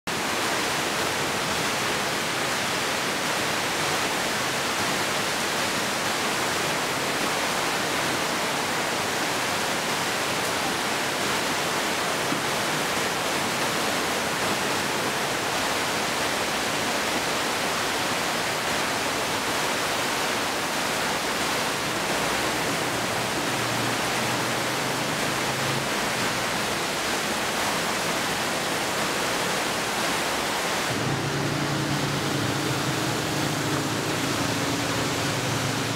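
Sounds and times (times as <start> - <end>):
heavy rain on roofs and trees: 0.0 - 35.9.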